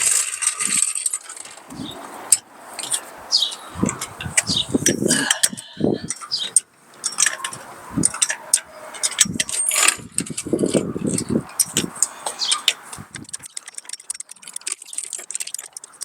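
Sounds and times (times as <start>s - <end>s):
metallic clanks and knocks: 0.0s - 14.4s.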